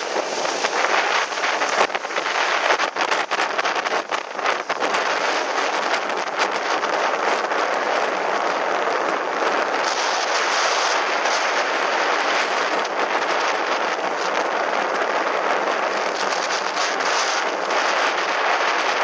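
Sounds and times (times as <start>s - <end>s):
motorboat wind and water rushing: 0.0s - 19.0s.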